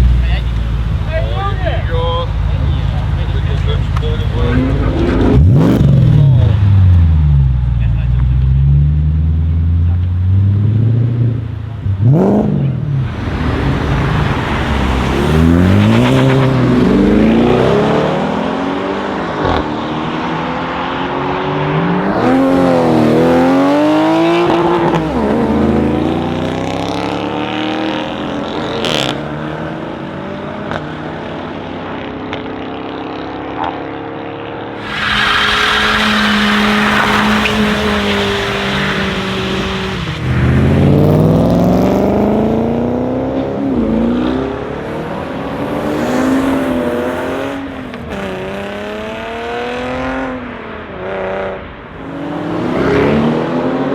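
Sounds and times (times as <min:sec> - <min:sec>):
car engine revving: 0:00.0 - 0:29.8, 0:34.8 - 0:53.9.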